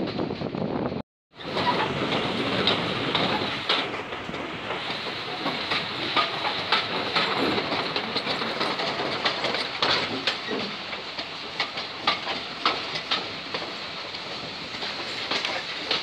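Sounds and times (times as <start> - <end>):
wheels clicking over rail joints: 1.4 - 16.0.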